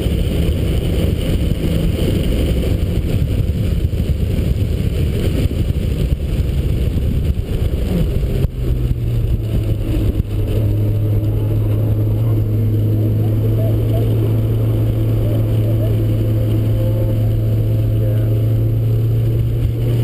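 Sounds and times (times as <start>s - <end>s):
car engine running at speed: 0.0s - 20.0s
wind and road noise: 0.0s - 20.0s.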